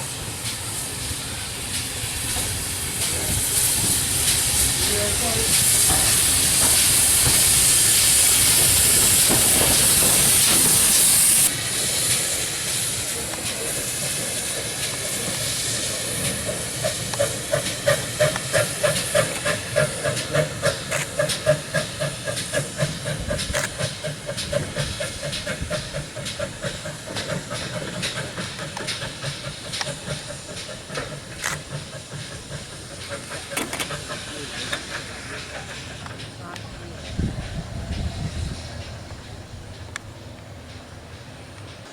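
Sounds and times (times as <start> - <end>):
steam hissing: 0.0 - 41.9
steam locomotive exhaust beats: 0.0 - 41.9.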